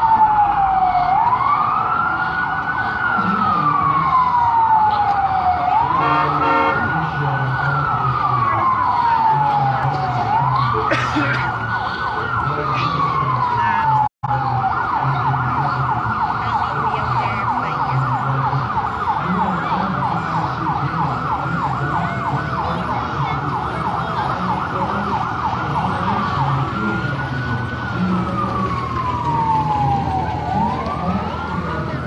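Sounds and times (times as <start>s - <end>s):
electronic siren yelping and wailing: 0.0s - 32.0s.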